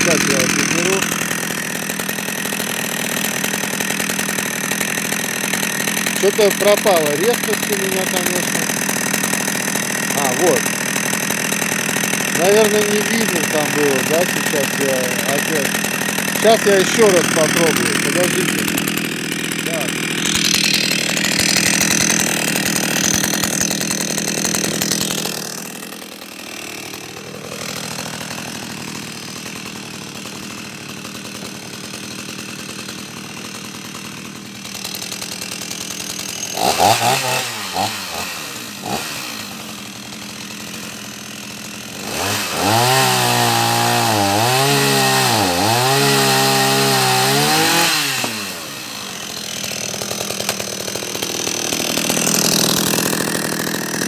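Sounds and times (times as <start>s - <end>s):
chainsaw running and cutting wood: 0.0s - 54.0s.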